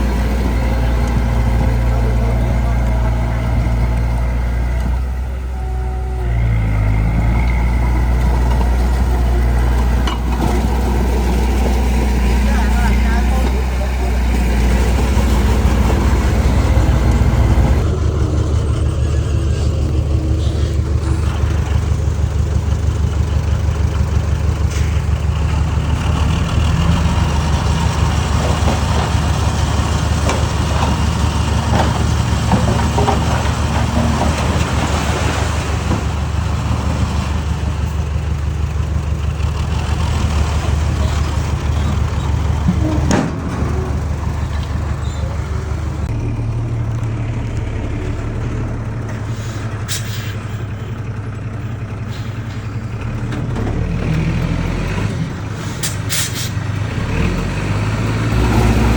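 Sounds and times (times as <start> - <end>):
heavy diesel engine rumbling: 0.0 - 58.9.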